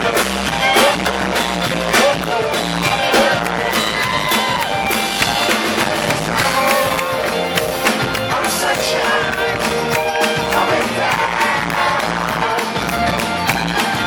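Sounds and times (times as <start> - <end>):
drum hits: 0.0 - 14.0
live band playing: 0.0 - 14.0
person singing: 0.0 - 14.0.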